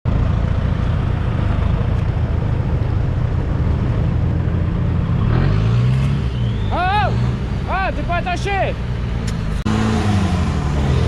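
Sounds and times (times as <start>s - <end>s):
engine rumbling: 0.1s - 11.0s.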